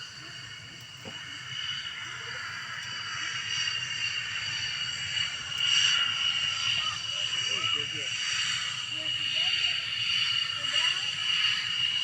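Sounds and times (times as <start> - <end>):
jet engine whine and rumble: 0.0 - 12.0.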